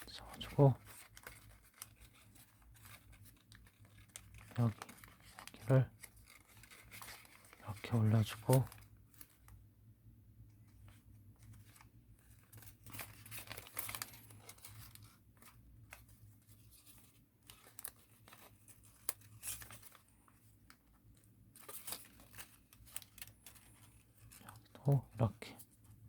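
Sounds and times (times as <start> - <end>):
paper being folded and creased: 0.0 - 9.6, 10.6 - 26.0.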